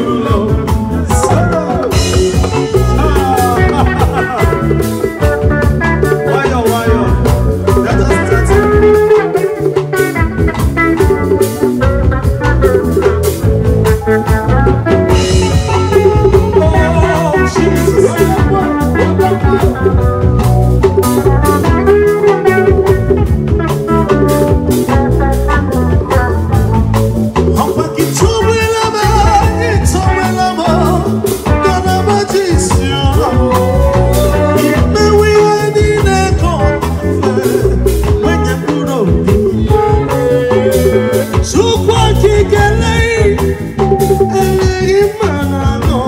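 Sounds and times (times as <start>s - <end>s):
drum kit beat: 0.0s - 46.0s
electric guitars: 0.0s - 46.0s
live band playing: 0.0s - 46.0s.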